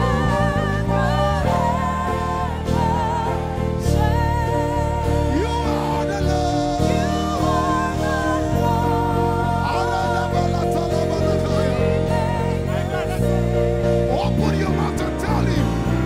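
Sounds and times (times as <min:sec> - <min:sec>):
band playing gospel music: 0:00.0 - 0:16.0
voices singing held notes: 0:00.0 - 0:16.0.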